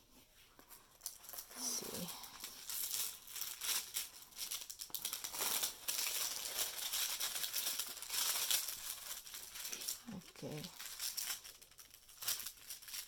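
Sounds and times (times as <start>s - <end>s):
plastic film crinkling: 0.5s - 13.0s.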